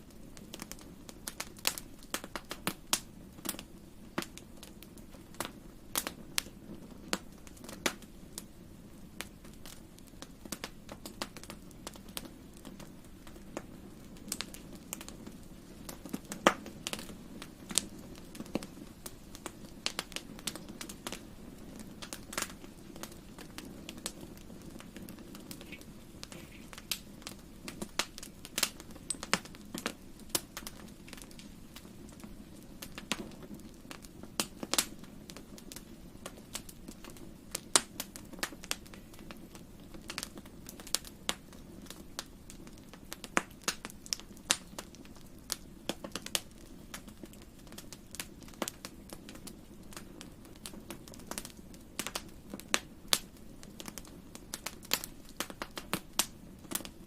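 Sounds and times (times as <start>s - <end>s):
fire pops and snaps: 0.0s - 57.0s
flames rumbling: 0.0s - 57.0s.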